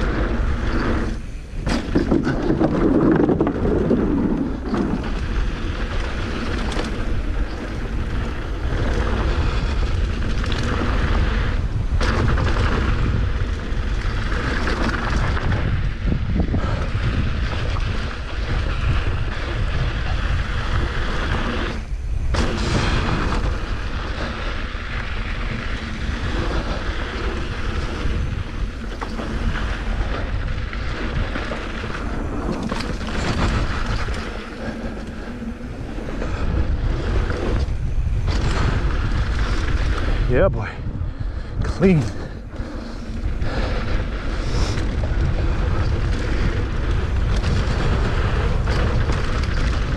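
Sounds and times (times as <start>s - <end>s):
bike tyres on dirt and rock: 0.0s - 49.9s
wind buffeting microphone: 0.0s - 49.9s.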